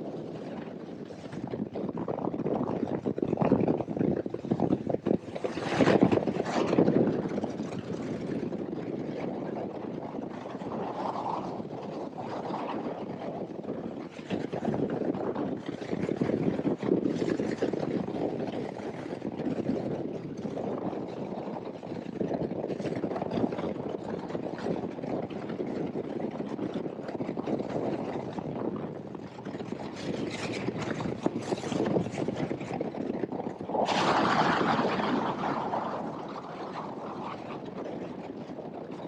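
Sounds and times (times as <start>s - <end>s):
rush of wind and water: 0.0s - 39.0s.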